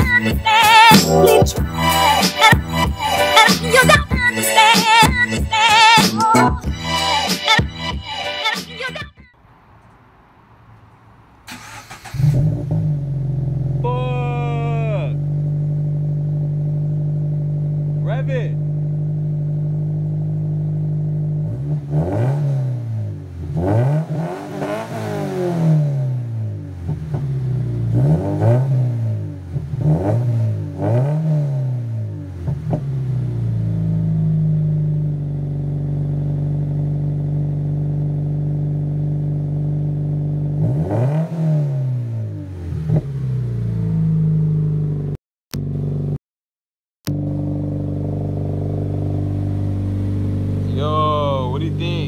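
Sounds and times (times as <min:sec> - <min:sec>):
car engine idling and revving: 0:09.4 - 0:46.2, 0:47.1 - 0:52.0.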